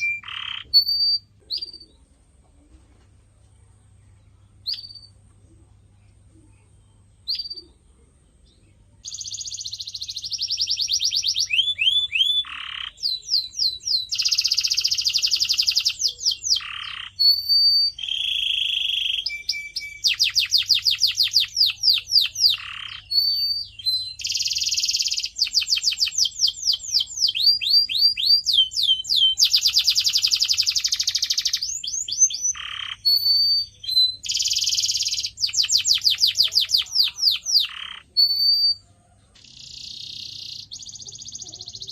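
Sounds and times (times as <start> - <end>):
canary singing trills: 0.0 - 2.4, 3.9 - 5.4, 6.3 - 41.9.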